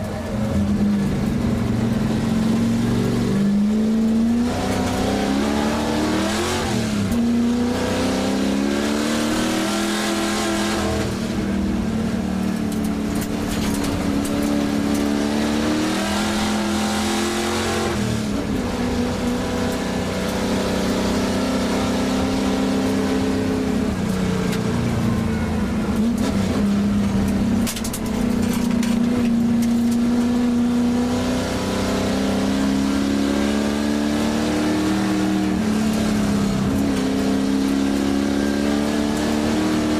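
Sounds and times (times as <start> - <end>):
racing engine accelerating: 0.0 - 39.9.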